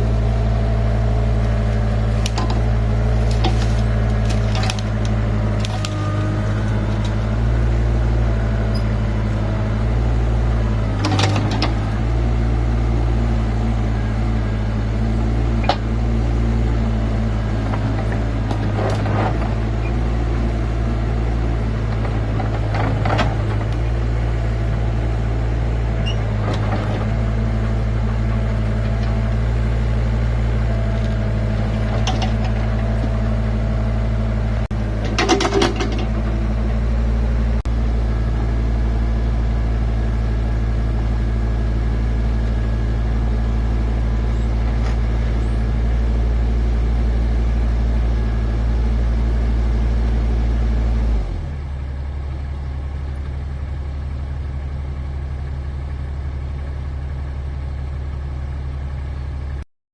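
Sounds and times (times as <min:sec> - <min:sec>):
engine running steadily: 0:00.0 - 0:59.6.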